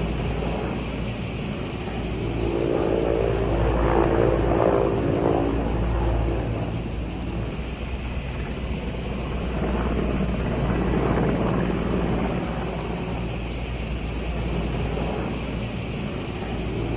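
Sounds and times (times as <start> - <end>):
insects droning: 0.0 - 16.9
wind rumbling on microphone: 0.0 - 16.9.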